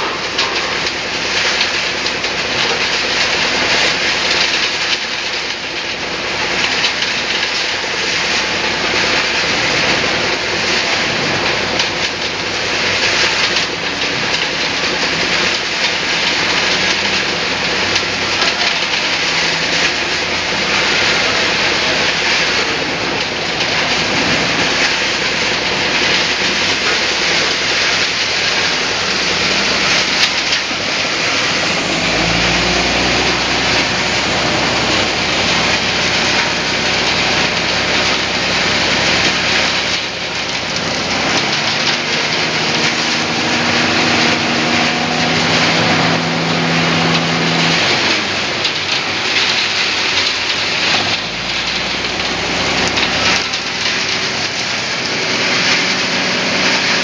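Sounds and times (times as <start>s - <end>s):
water and wet gravel churning: 0.0s - 57.0s
low machinery hum: 7.5s - 57.0s.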